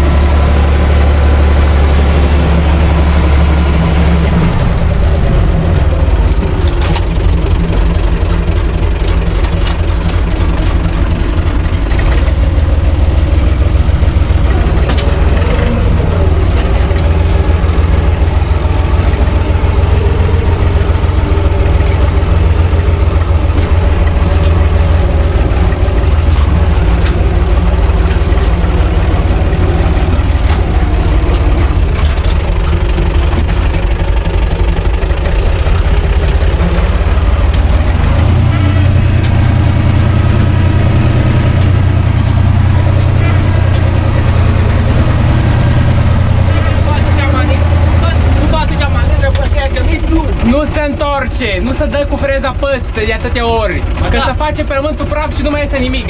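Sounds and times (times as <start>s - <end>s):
tractor diesel engine running: 0.0s - 56.0s
sharp clicks and rattles: 2.9s - 56.0s.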